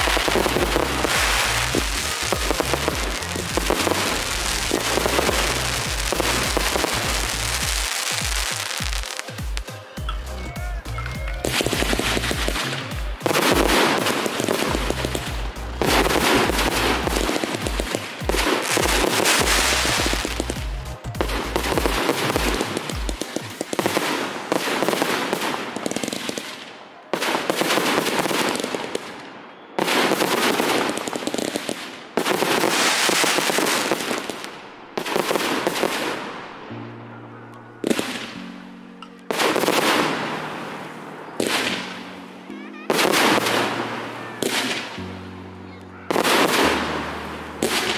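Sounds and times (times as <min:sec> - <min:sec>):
music: 0:00.0 - 0:26.5, 0:32.2 - 0:47.9
fireworks bangs echoing: 0:00.0 - 0:47.9.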